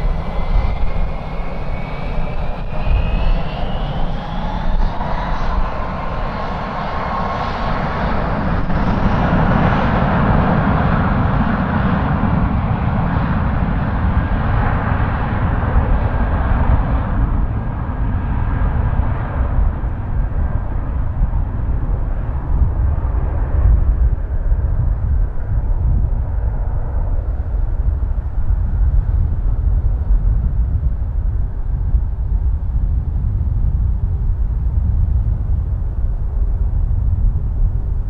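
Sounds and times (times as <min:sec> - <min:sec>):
jet airliner passing: 0:00.0 - 0:38.0.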